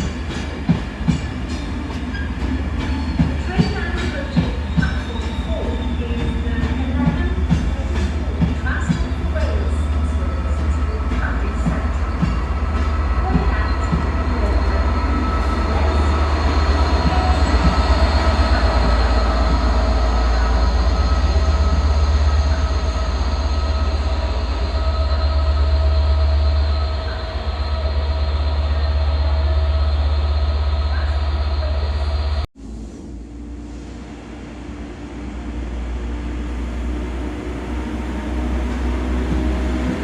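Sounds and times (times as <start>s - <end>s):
diesel train rumbling past: 0.0s - 40.0s
train whine: 0.0s - 40.0s.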